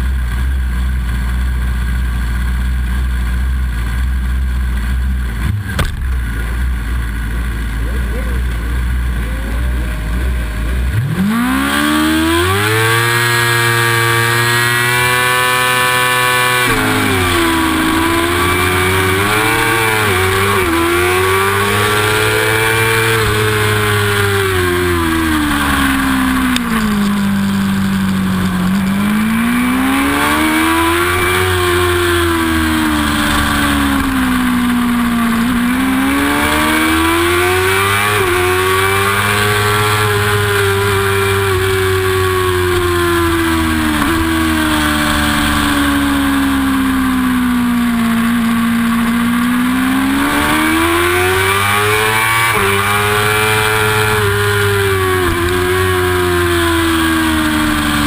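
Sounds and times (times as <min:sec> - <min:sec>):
race motorcycle engine revving: 0:00.0 - 0:58.0.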